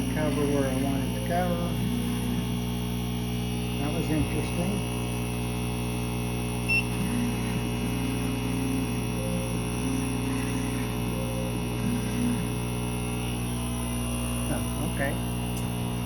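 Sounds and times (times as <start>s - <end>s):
stepper motors whining: 0.0s - 4.8s, 6.5s - 16.0s
electrical hum: 0.0s - 16.0s.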